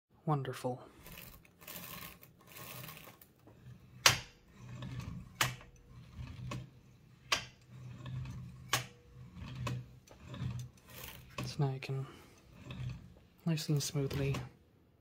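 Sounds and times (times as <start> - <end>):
typewriter cylinder rubbing rumble: 0.9 - 14.6.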